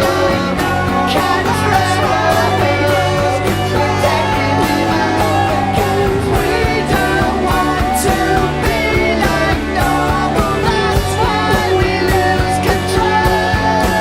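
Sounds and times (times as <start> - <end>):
rock band instrumental: 0.0 - 14.0.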